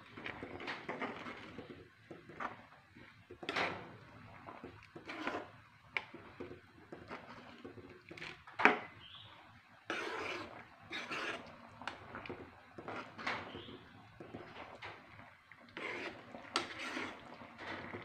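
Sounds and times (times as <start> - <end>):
spoon stirring in metal pan: 0.0 - 18.0.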